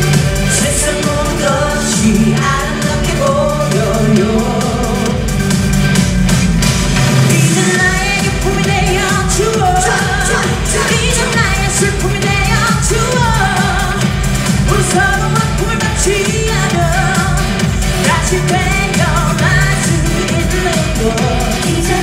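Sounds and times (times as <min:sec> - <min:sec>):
music with steady beat: 0:00.0 - 0:22.0
women singing pop song: 0:00.0 - 0:22.0.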